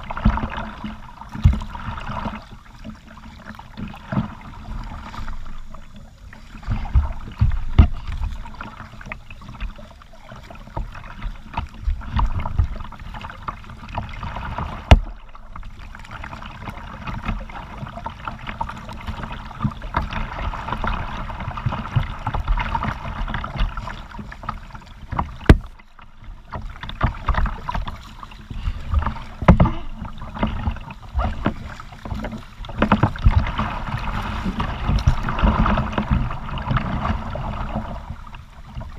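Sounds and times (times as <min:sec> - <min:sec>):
thumps through kayak hull: 0:00.0 - 0:03.0, 0:06.5 - 0:09.9, 0:10.5 - 0:15.4, 0:16.8 - 0:38.9
paddle splashing water: 0:00.0 - 0:38.9.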